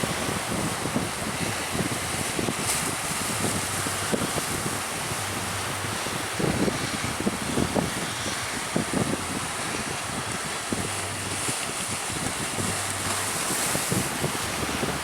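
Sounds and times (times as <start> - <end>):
sea waves rushing: 0.0 - 15.0
wind buffeting microphone: 0.0 - 15.0.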